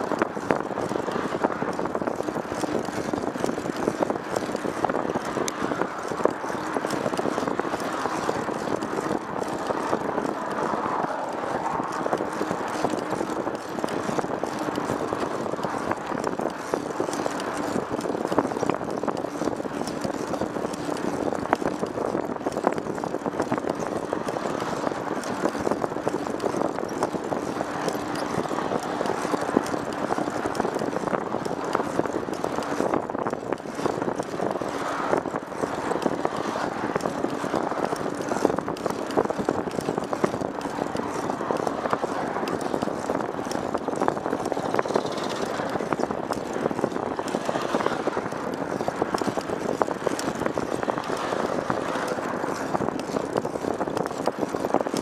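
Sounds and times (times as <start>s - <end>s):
moving vehicle rush: 0.0s - 55.0s
small rattles and clicks: 0.0s - 55.0s.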